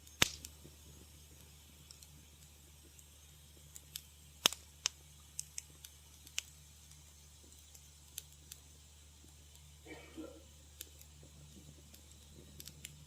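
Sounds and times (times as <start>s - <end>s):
faint low steady hum: 0.0s - 13.0s
wood fire crackling: 0.0s - 13.0s.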